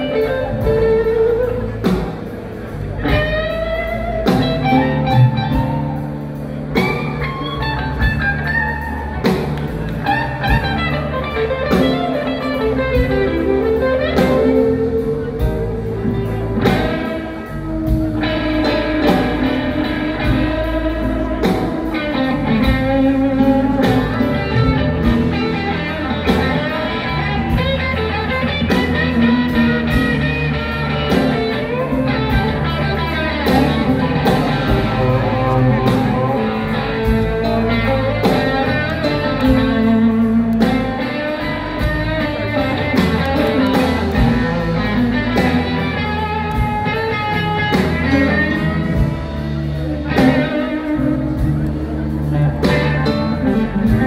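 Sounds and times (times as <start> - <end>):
blues band playing: 0.0 - 54.0
electric guitar: 0.0 - 54.0.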